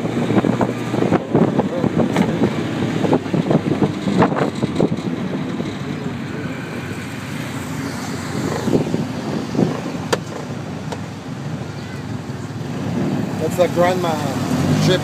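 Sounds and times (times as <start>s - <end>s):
passing traffic: 0.0s - 15.0s
wind and road noise: 0.0s - 15.0s.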